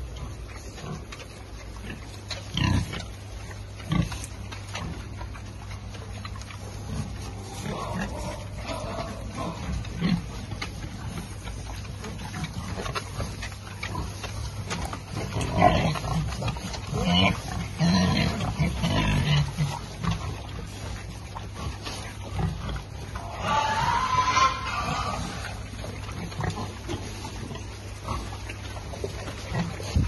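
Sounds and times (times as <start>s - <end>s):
pigs grunting and snuffling: 0.0s - 30.0s.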